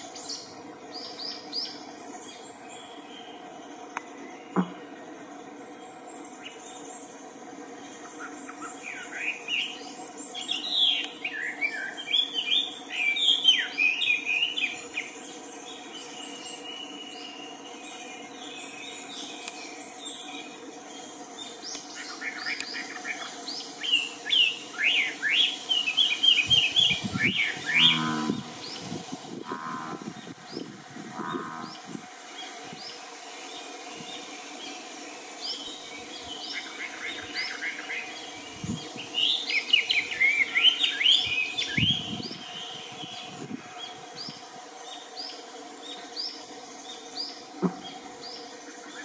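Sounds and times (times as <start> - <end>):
birds twittering: 0.0 - 49.0
forest ambience drone: 0.0 - 49.0.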